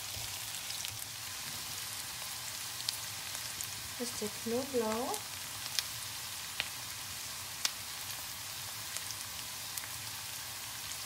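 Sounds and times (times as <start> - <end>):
onions frying with sizzle and pops: 0.0 - 11.0.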